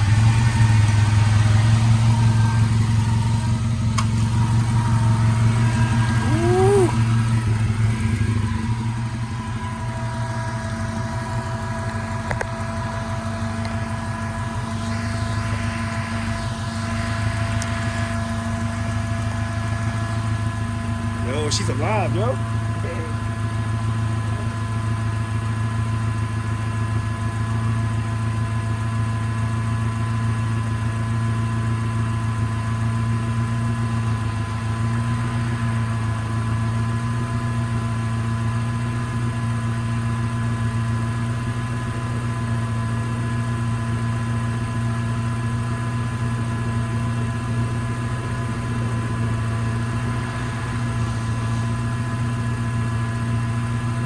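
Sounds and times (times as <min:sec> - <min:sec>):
car engine idling: 0:00.0 - 0:54.0
faint steady whine: 0:00.0 - 0:54.0.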